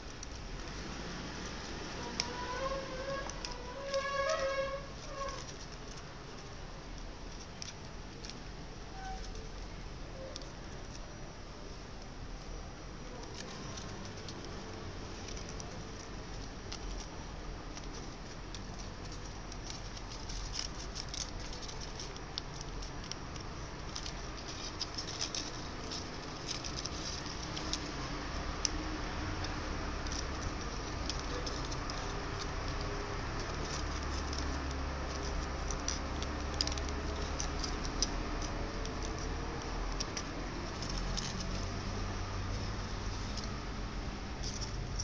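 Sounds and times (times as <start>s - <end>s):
paper rustling and crinkling: 0.0s - 12.2s, 12.9s - 45.0s.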